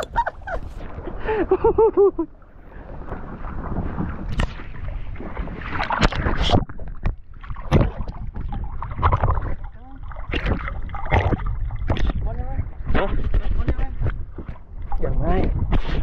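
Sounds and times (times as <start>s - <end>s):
water: 0.0s - 16.0s
wind: 0.0s - 16.0s.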